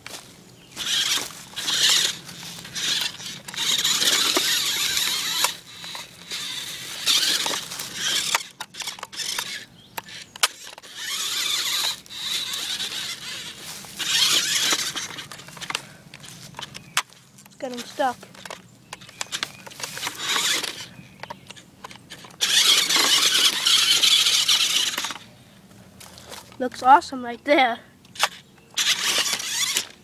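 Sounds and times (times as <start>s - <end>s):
toy truck electric motor whining: 0.8s - 25.3s, 28.1s - 30.0s.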